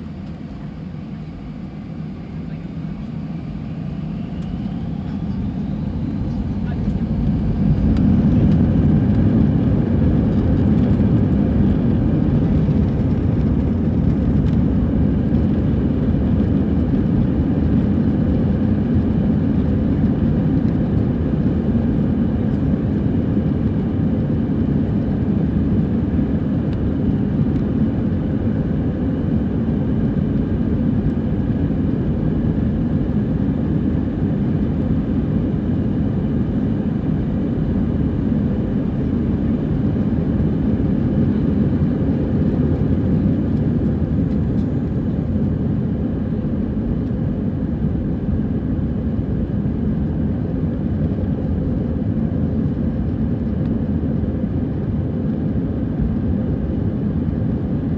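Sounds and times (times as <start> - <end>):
deep rumble of takeoff roll: 0.0 - 57.9
jet engines at takeoff thrust: 0.0 - 57.9.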